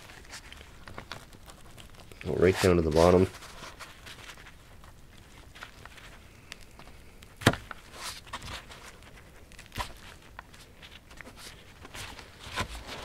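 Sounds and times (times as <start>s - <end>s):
gloves crinkling: 0.0s - 13.0s
soft tearing of membranes: 0.0s - 13.0s.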